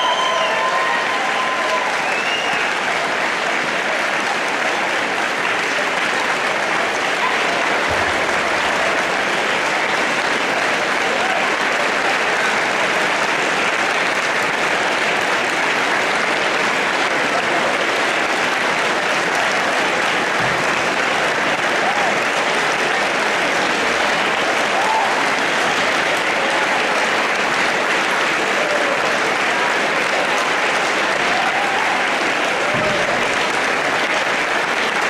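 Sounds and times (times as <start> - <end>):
crowd applauding: 0.0 - 35.0.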